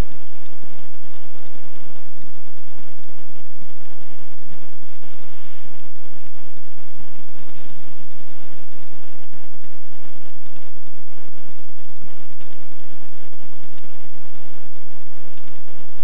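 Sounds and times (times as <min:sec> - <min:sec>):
faint steady hum: 0:00.0 - 0:16.0
steady high hiss: 0:00.0 - 0:16.0.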